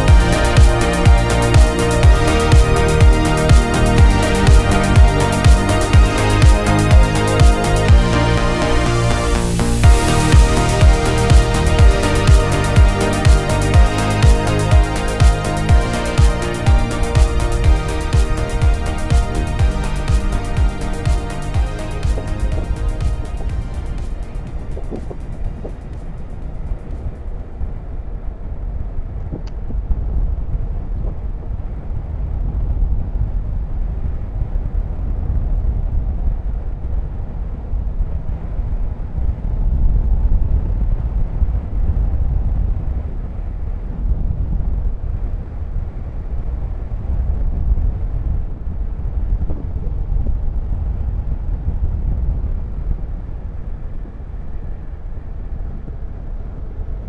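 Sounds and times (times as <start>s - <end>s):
wind and road noise: 0.0s - 57.0s.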